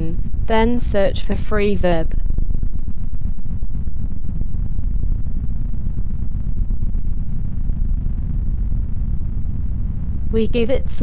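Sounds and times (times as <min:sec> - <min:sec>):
synth drone buzz: 0:00.0 - 0:11.0.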